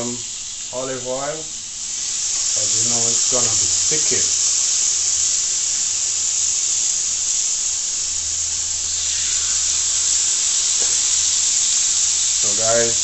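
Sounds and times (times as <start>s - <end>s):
chicken sizzling on a grill: 0.0s - 13.0s.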